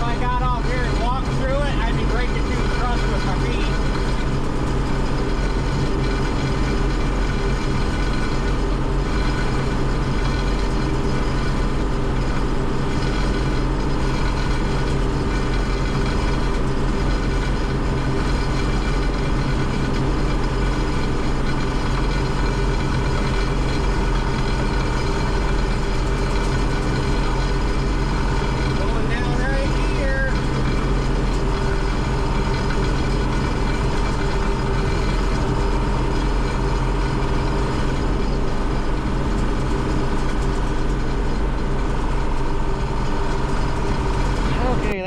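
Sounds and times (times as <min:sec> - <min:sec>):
combine harvester engine drone: 0:00.0 - 0:45.0
threshing machinery hum: 0:00.0 - 0:45.0.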